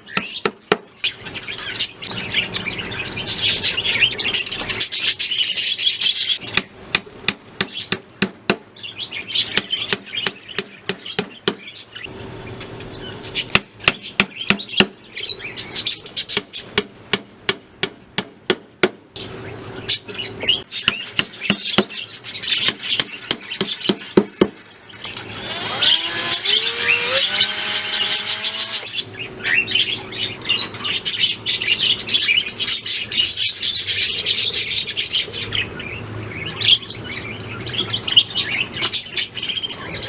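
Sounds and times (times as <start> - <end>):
budgerigars chirping: 0.0 - 6.6, 8.8 - 16.7, 19.2 - 24.2, 25.0 - 40.0.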